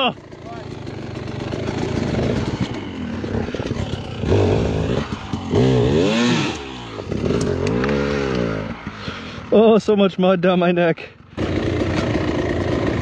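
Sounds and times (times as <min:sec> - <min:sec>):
dirt bike engine revving: 0:00.0 - 0:09.5, 0:11.2 - 0:13.0.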